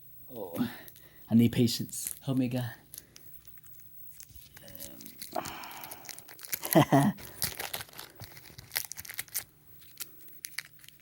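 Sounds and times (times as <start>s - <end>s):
candy wrapper crinkling: 1.8s - 11.0s.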